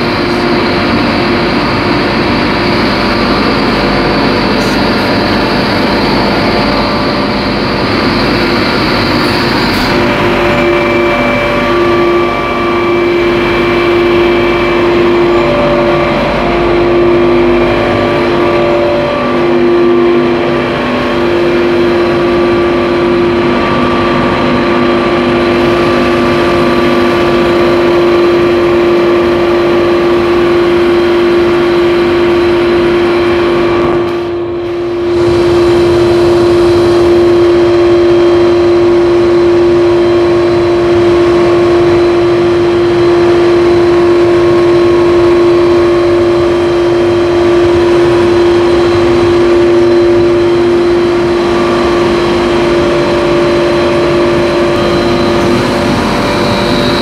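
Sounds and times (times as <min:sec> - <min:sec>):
air compressor humming: 0:00.0 - 0:57.0.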